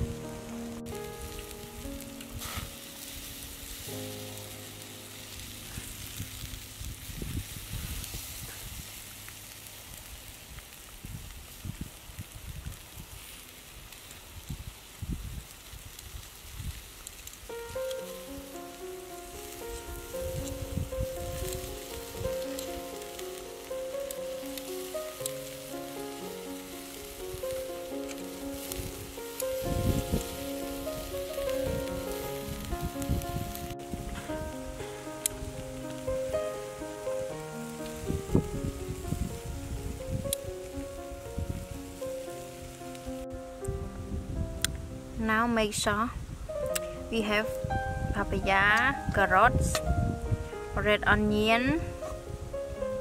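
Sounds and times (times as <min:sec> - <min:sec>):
soft music: 0:00.0 - 0:09.7, 0:17.3 - 0:53.0
charcoal crackles: 0:00.0 - 0:53.0
meat sizzling on a grill: 0:00.0 - 0:53.0.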